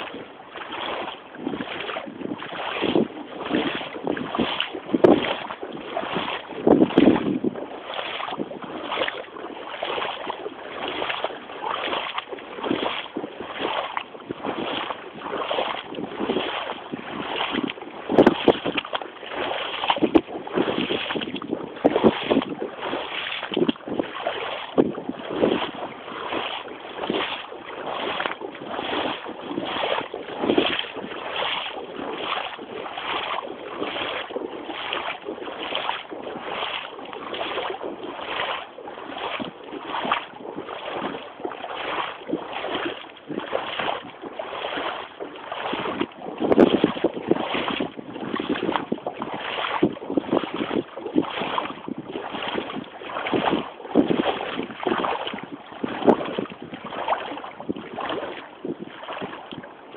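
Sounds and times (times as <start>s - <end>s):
boots wading through water: 0.0s - 59.9s.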